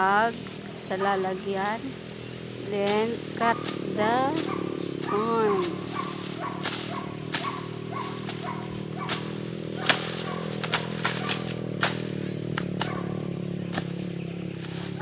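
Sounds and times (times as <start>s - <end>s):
blade chopping corn stalks: 0.0s - 15.0s
steady low hum: 0.0s - 15.0s.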